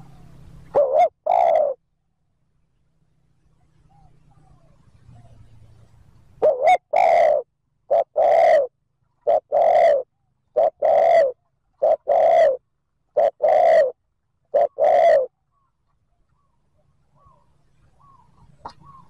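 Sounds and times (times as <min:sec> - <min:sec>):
dove cooing: 0:00.0 - 0:01.8, 0:03.6 - 0:05.6, 0:06.4 - 0:15.4, 0:16.4 - 0:19.0.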